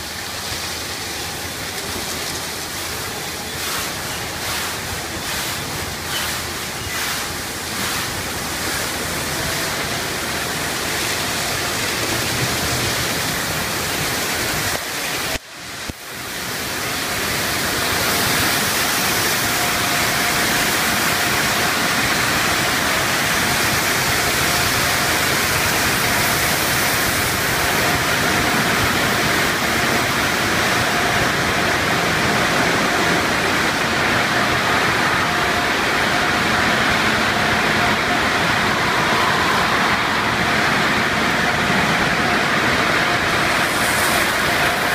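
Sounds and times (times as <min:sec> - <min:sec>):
rinse water pouring over roof: 0:00.0 - 0:44.9
water spraying in car wash: 0:00.0 - 0:44.9.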